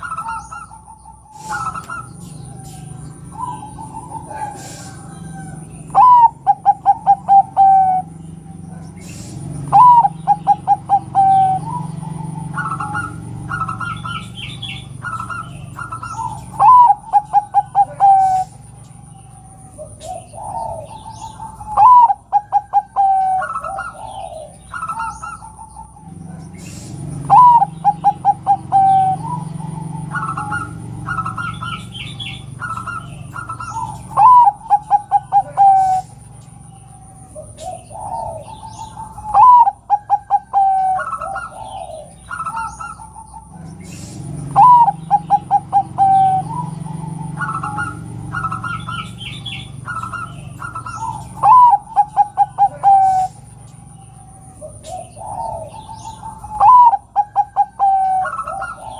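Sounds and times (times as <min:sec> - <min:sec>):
bird chirps: 0:00.0 - 0:58.9
dove cooing: 0:00.0 - 0:58.9.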